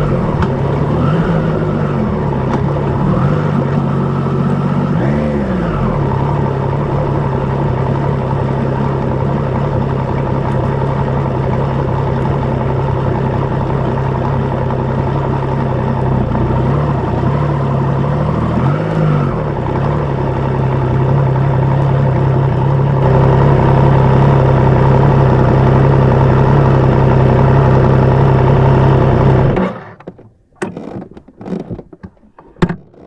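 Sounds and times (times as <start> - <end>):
motorcycle engine idling: 0.0 - 29.6
engine clicks and knocks: 0.0 - 33.0.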